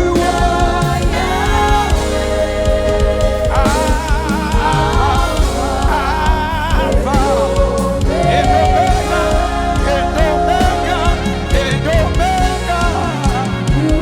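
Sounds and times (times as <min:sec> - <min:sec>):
band with heavy bass: 0:00.0 - 0:14.0
singers with vibrato: 0:00.0 - 0:14.0.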